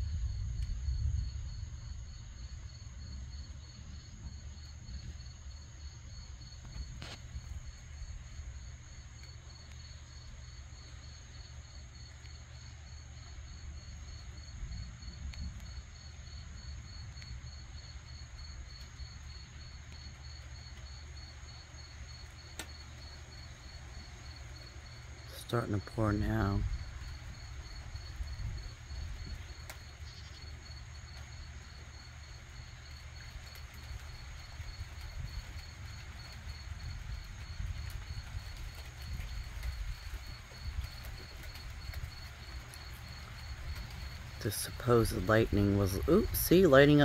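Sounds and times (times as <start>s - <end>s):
crickets chirping: 0.0s - 47.0s
high insect trill: 0.8s - 47.0s.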